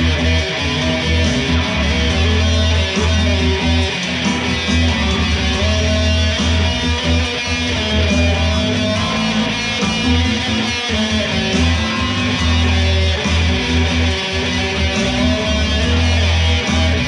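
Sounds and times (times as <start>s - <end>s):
electric guitar chords: 0.0s - 17.0s
steady low bass: 0.0s - 17.0s.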